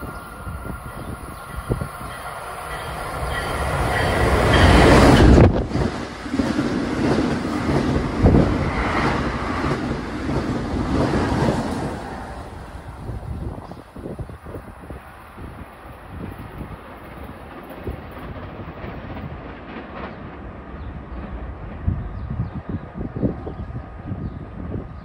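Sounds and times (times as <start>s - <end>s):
electric locomotive passing: 0.0s - 25.0s
train passing rumble: 0.0s - 25.0s.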